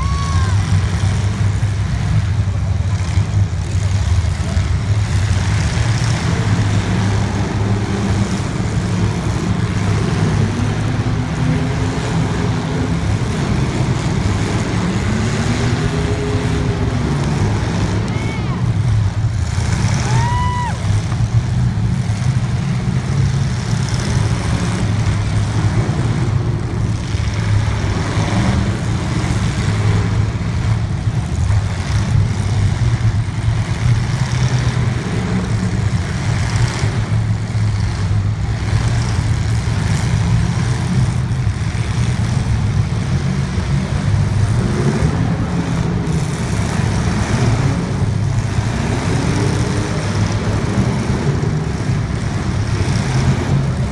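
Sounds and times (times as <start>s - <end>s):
racing engine revving: 0.0s - 53.9s.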